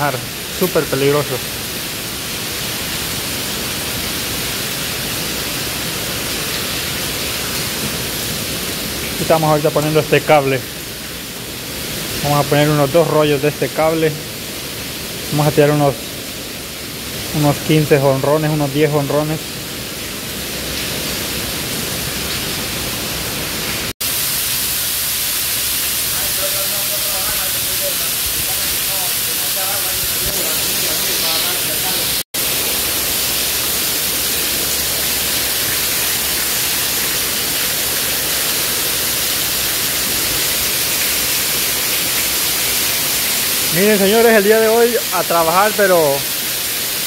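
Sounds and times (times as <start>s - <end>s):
heavy rain on a metal roof: 0.0s - 47.0s.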